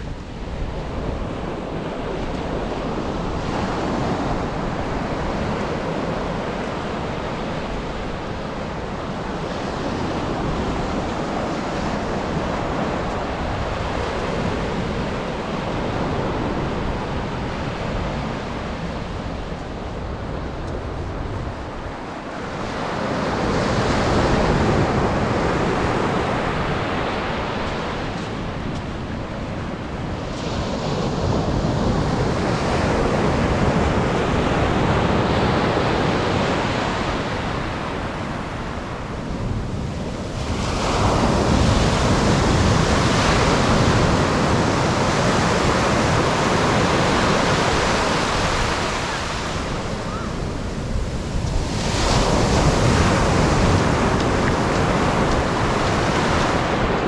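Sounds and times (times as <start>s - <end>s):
surf breaking on beach: 0.0s - 57.0s
wind on microphone: 0.0s - 57.0s.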